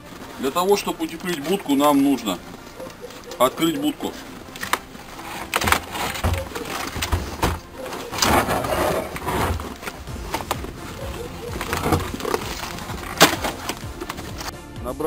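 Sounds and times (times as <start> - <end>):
snow crunching: 0.0 - 14.5
wood knocking and scraping: 1.1 - 14.5.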